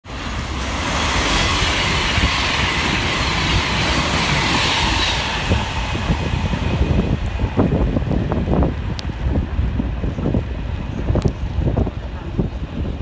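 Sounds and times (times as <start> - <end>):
train rushing past: 0.0 - 13.0.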